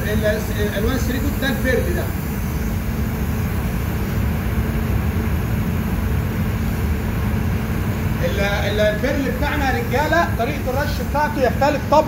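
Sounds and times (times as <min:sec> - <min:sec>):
ventilation fans running: 0:00.0 - 0:12.0.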